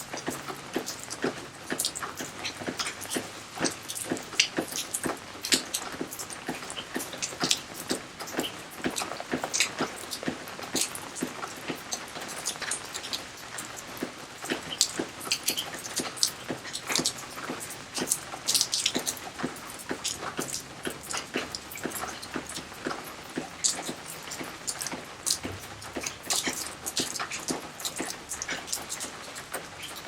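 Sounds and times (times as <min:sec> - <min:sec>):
rain falling on water: 0:00.0 - 0:30.0.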